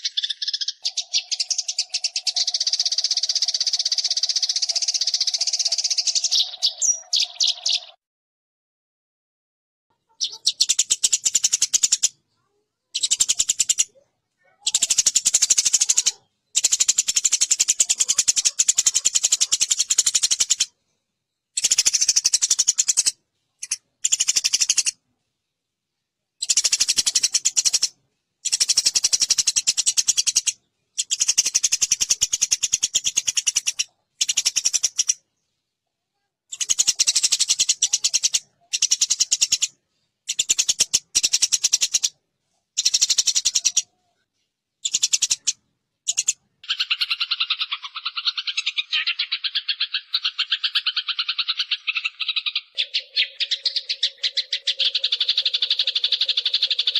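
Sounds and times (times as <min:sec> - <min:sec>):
sparrows harsh chattering calls: 0:00.0 - 0:08.0, 0:10.1 - 0:20.7, 0:21.5 - 0:25.0, 0:26.4 - 0:35.4, 0:36.5 - 0:42.2, 0:42.8 - 0:44.0, 0:44.8 - 0:56.9.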